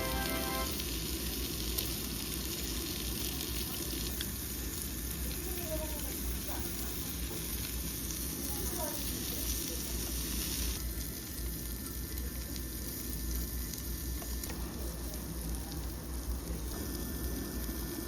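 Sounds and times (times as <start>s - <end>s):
pork sizzling on a grill: 0.0s - 18.0s.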